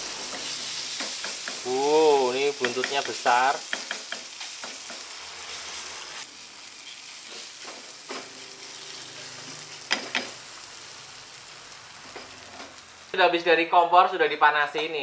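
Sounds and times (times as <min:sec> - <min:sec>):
meat sizzling in a frying pan: 0:00.0 - 0:13.5.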